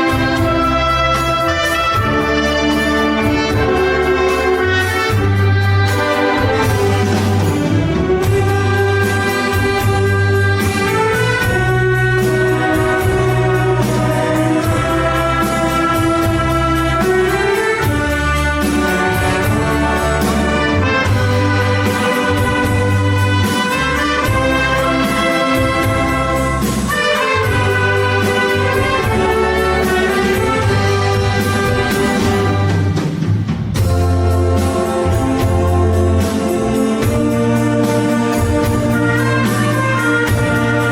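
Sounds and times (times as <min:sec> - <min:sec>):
brass playing: 0:00.0 - 0:40.9.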